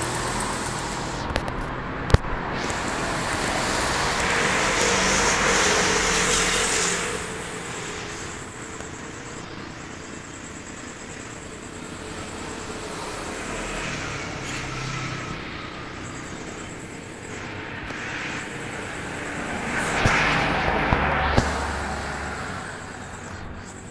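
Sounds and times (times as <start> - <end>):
strong gusting wind: 0.0 - 23.9.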